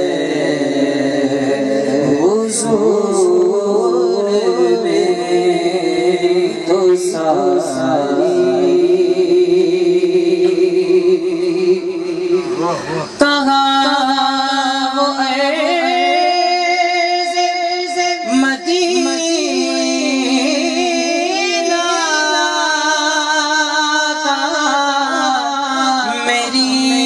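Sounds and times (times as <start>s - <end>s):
man singing devotional song: 0.0s - 27.0s.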